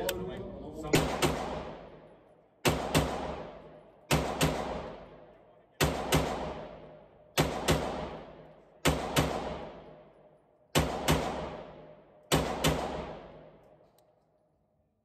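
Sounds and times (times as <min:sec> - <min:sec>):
gunshots echoing indoors: 0:00.9 - 0:13.8.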